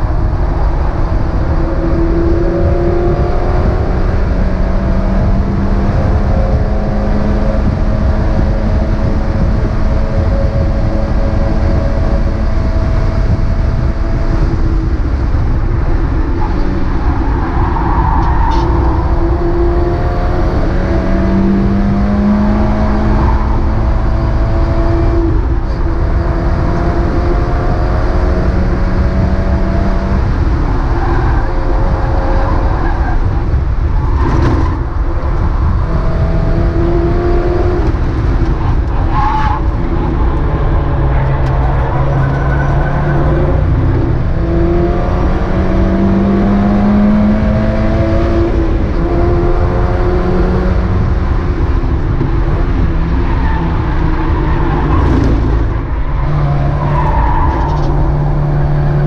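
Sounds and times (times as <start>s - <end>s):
race car engine revving through gears: 0.0s - 59.0s
tyre and road noise: 0.0s - 59.0s.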